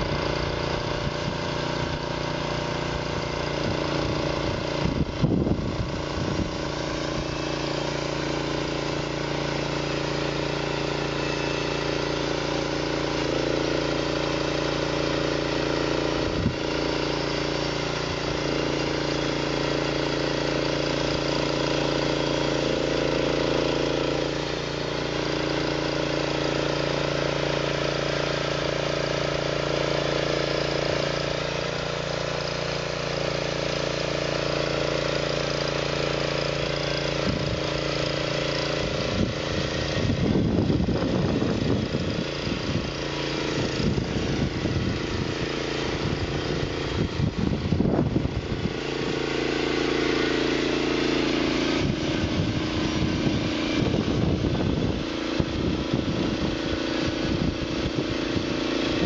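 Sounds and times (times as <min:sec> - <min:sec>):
band saw blade cutting log: 0:00.0 - 0:59.0
small gasoline engine running: 0:00.0 - 0:59.0.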